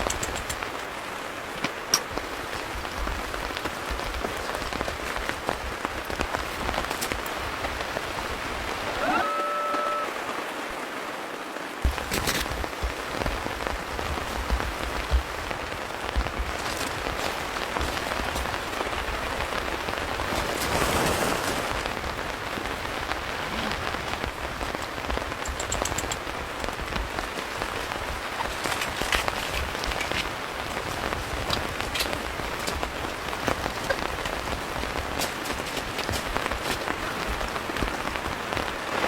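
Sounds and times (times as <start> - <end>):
louder raindrops: 0.0 - 39.0
steady rain in a forest: 0.0 - 39.0.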